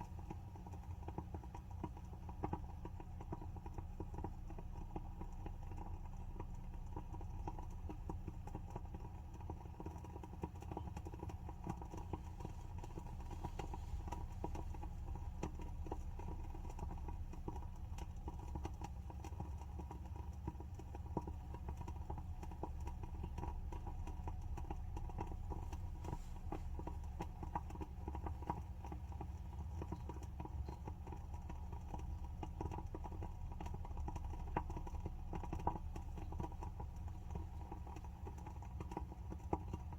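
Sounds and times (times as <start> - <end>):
candle wick crackling: 0.0 - 39.9
low steady hum: 0.0 - 39.9.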